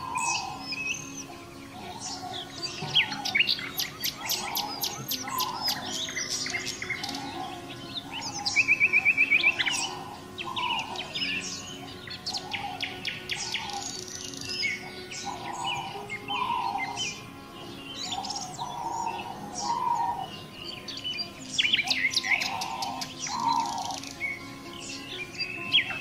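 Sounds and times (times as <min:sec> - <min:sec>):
birds chirping and trilling: 0:00.0 - 0:26.0
low bird call: 0:00.0 - 0:26.0.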